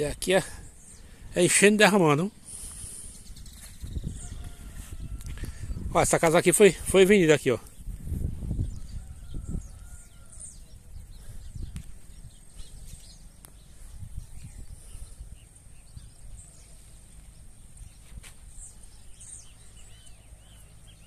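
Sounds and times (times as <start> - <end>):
low rumble on microphone: 2.4 - 6.2, 7.6 - 21.0.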